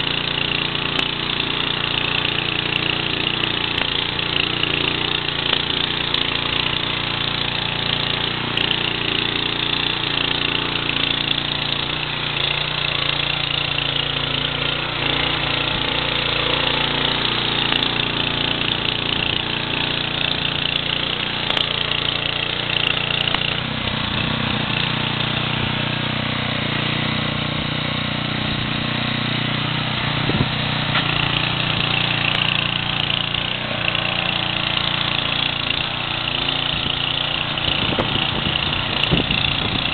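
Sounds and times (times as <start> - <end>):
garden tiller engine running: 0.0 - 39.9
tines digging through soil: 0.0 - 39.9.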